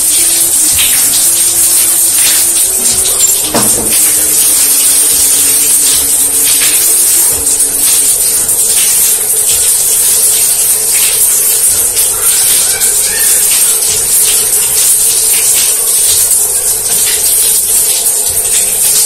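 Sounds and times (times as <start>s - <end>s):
shower spraying water: 0.0s - 19.0s.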